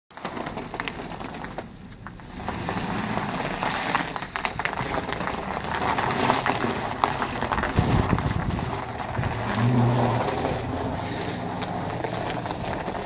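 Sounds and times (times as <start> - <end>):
tyres crunching over ice and snow: 0.1 - 13.0
truck engine running: 0.4 - 13.0.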